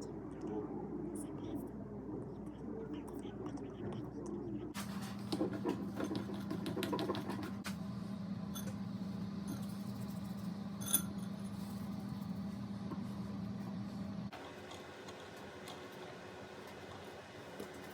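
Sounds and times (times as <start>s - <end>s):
appliance hum: 0.0s - 17.9s.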